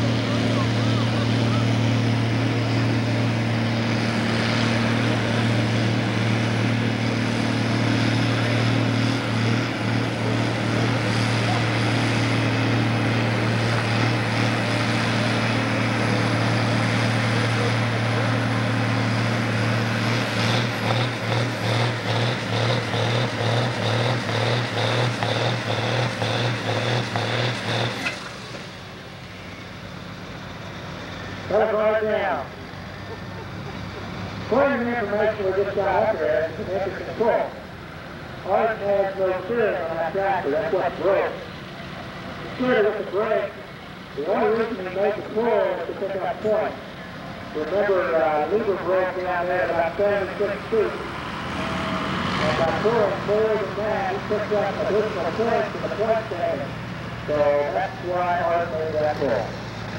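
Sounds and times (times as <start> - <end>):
tractor engine drone: 0.0 - 59.9.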